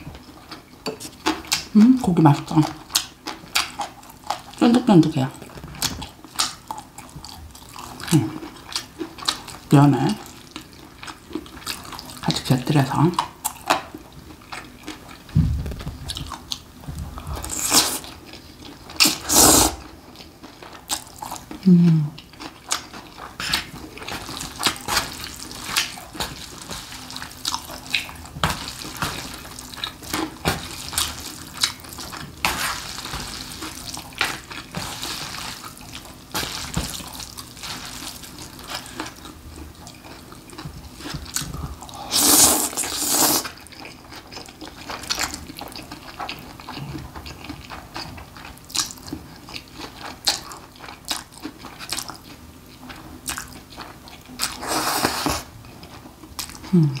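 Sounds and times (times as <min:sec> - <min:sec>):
wet chewing and slurping noodles: 0:05.4 - 0:12.3, 0:13.2 - 0:57.0.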